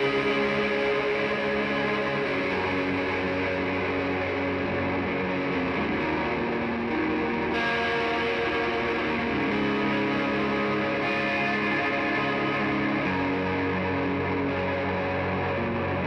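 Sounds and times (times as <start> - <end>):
guitar chords through effects: 0.0 - 16.0.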